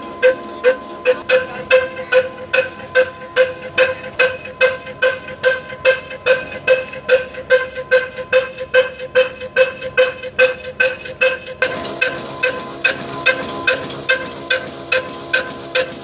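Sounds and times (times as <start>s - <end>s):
diesel engine exhaust beats: 0.0s - 16.0s.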